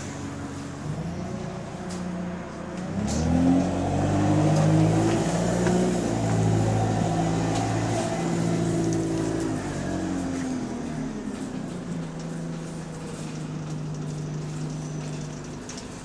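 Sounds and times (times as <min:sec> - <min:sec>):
bus diesel engine pulling away: 0:00.0 - 0:16.0.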